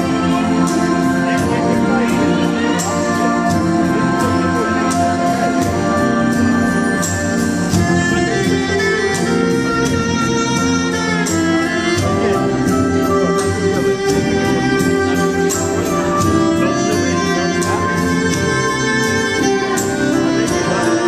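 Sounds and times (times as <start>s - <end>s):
waltz music: 0.0s - 21.0s.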